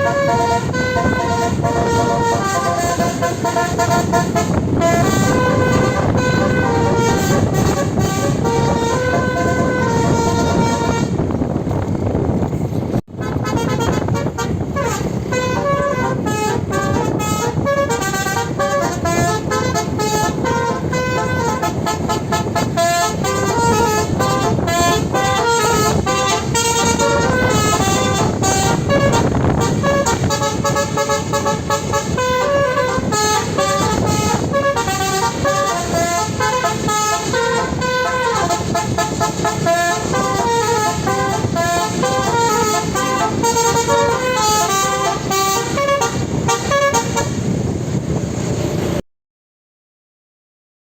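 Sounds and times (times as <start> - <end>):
bus musical horn playing tune: 0.0 - 11.8, 12.9 - 49.0.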